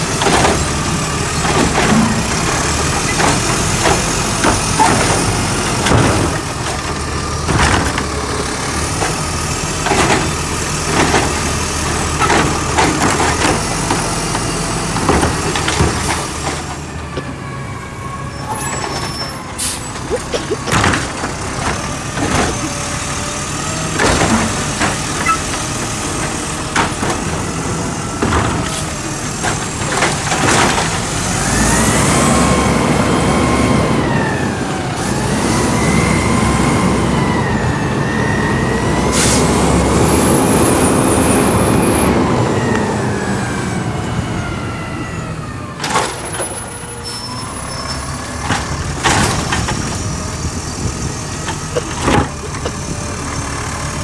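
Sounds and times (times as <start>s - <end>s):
garbage truck engine whining: 0.0s - 54.0s.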